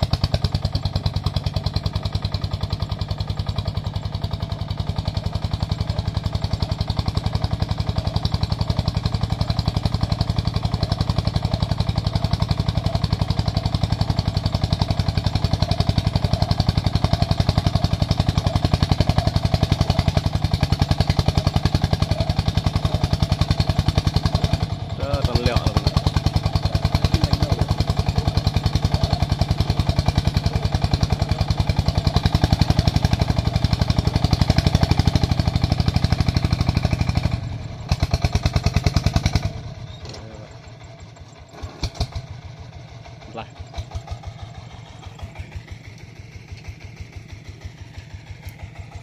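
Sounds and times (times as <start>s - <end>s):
tractor diesel engine thudding: 0.0s - 49.0s.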